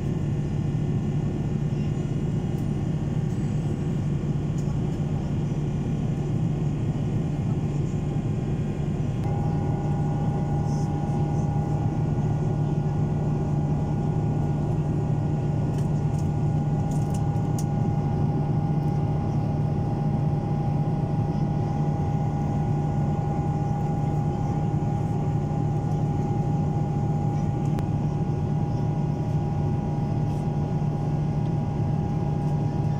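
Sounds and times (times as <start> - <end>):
airliner cabin engine roar: 0.0 - 32.9
thin steady engine whine: 0.0 - 32.9.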